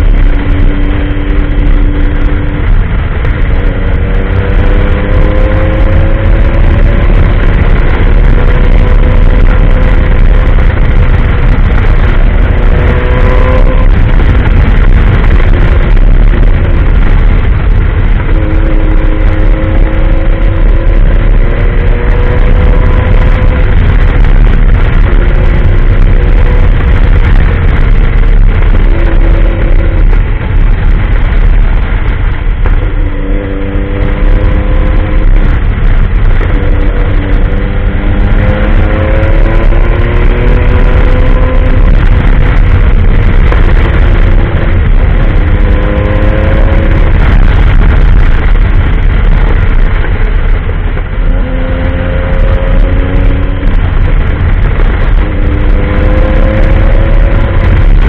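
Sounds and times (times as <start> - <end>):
low rumble of wind and ground: 0.0 - 58.0
motorcycle engine revving: 0.0 - 58.0.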